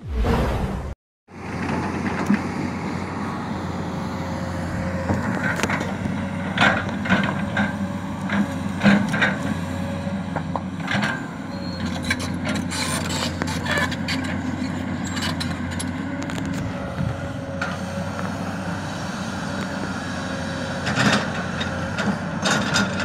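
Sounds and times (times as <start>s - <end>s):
excavator diesel engine running: 1.4s - 23.0s.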